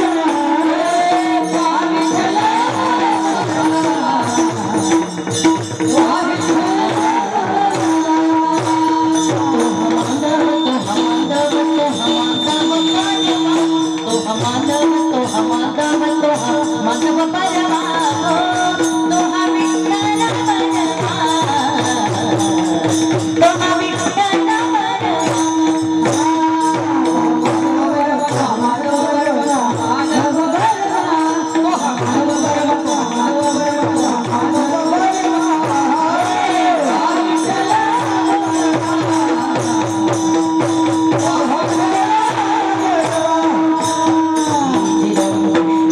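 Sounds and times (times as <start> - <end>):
busy percussion: 0.0 - 45.9.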